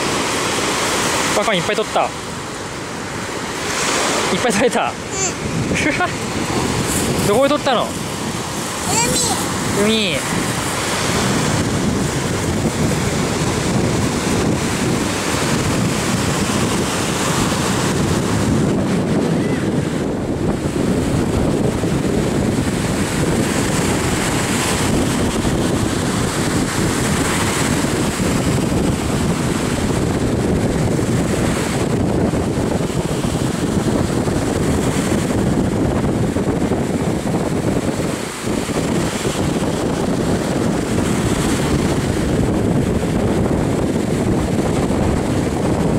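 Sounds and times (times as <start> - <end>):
breaking surf: 0.0 - 45.9
wind buffeting microphone: 0.0 - 45.9.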